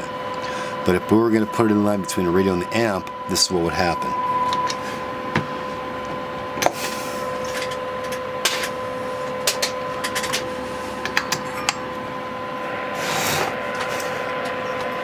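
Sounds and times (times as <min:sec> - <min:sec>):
steady electronic tone: 0:00.0 - 0:15.0.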